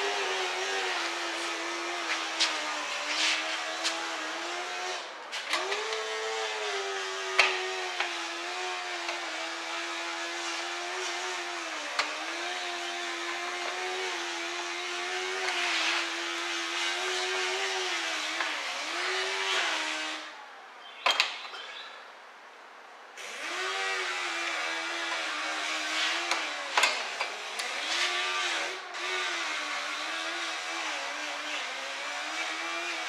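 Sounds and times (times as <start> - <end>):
power tool motor whining: 0.0 - 20.3, 23.2 - 33.0.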